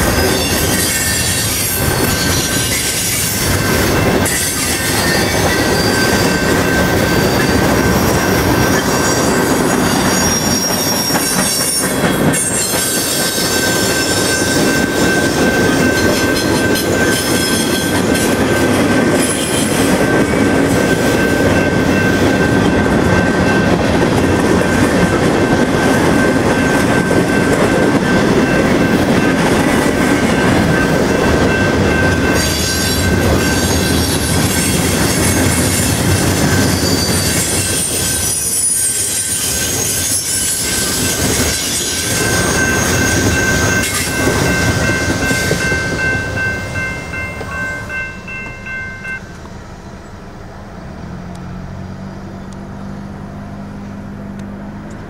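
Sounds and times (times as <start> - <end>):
high squeal from wheels: 0.0 - 50.2
diesel locomotive engine drone: 0.0 - 55.0
train wheels rumbling on rail: 0.0 - 55.0.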